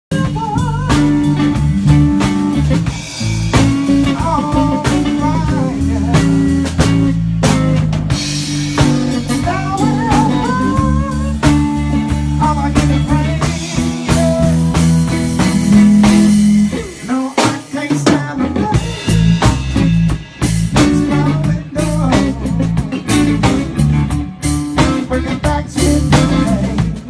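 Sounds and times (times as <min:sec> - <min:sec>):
bass guitar: 0:00.0 - 0:27.0
drum kit: 0:00.1 - 0:27.0
lead electric guitar: 0:00.1 - 0:27.0.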